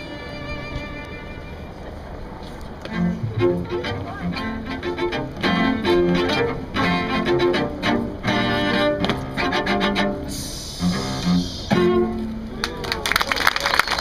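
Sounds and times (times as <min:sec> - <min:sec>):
cello quartet playing: 0:00.0 - 0:12.6.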